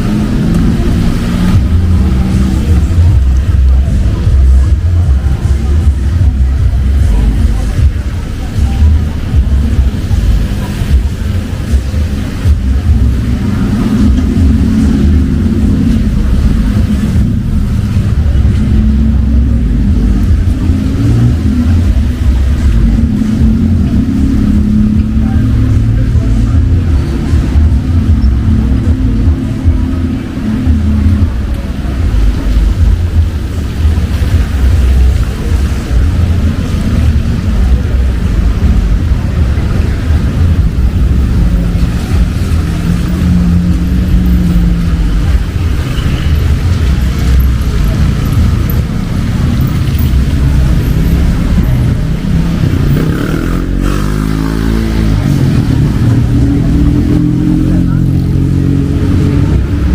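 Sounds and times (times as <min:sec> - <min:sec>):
low pitched tones: 0:00.0 - 0:59.9
vehicle engines in street traffic: 0:00.0 - 0:59.9.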